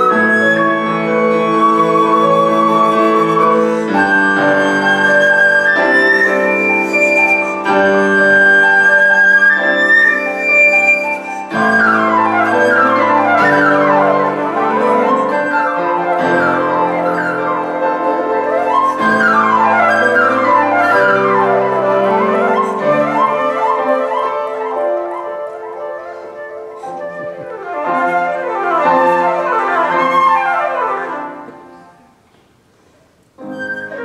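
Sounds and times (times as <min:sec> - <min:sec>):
flute playing: 0:00.0 - 0:32.1, 0:33.4 - 0:34.0
piano chords: 0:00.0 - 0:34.0.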